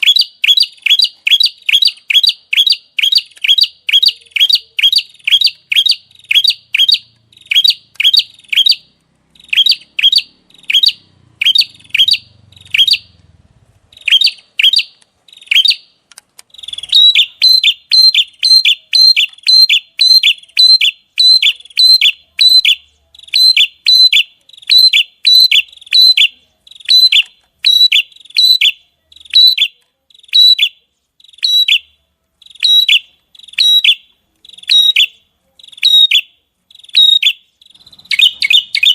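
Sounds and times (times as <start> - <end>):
songbird sharp high calls: 0.0 - 13.2, 13.9 - 38.9.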